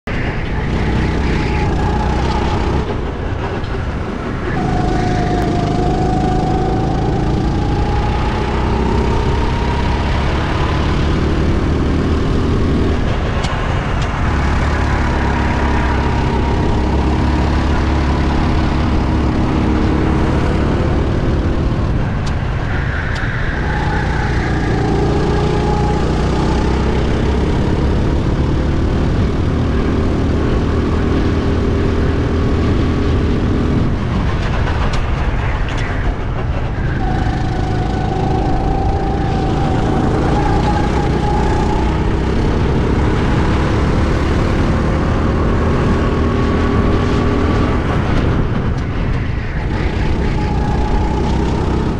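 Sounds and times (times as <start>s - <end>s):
wind rushing over microphone: 0.0s - 51.9s
go-kart engine revving: 0.5s - 22.0s, 23.5s - 34.1s, 36.9s - 48.6s, 49.6s - 51.9s.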